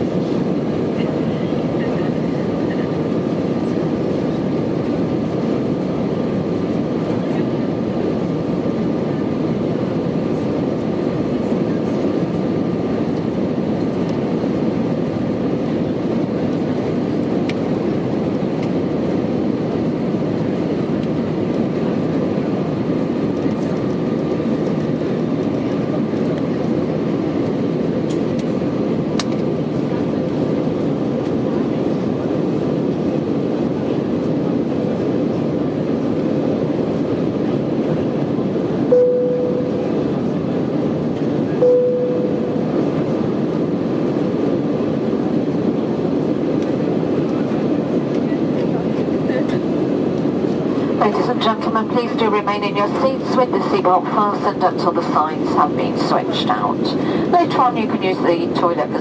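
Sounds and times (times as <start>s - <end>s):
jet engine roar in cabin: 0.0s - 59.0s.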